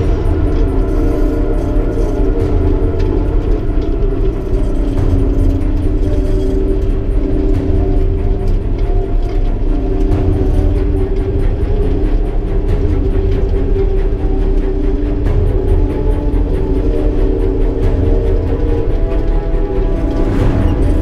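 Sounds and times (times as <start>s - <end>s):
combine harvester diesel engine: 0.0s - 21.0s.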